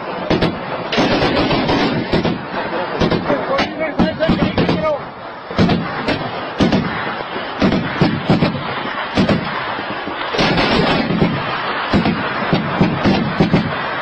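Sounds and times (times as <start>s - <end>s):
gunshots echoing: 0.2s - 14.0s.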